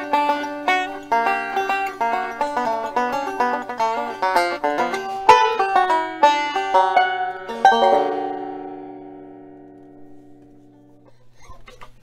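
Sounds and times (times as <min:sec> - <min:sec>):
banjo music: 0:00.0 - 0:11.2.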